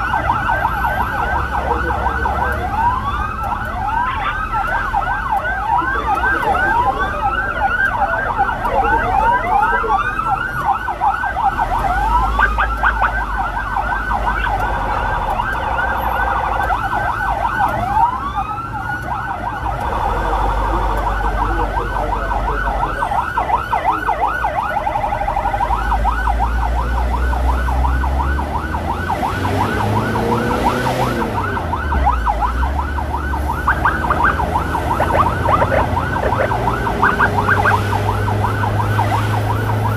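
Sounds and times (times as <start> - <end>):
emergency siren yelp: 0.0 - 39.9
engine and road noise rumble: 0.0 - 39.9
siren rising whoops: 0.0 - 39.9.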